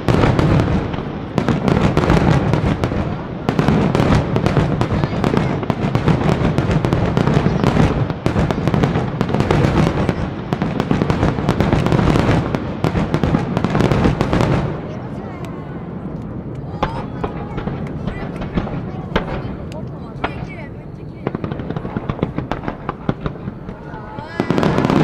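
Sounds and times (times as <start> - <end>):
rapid crackling and popping: 0.0 - 25.0.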